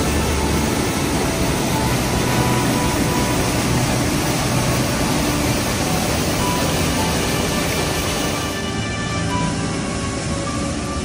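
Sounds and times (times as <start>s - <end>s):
creek whitewater rushing: 0.0s - 11.0s.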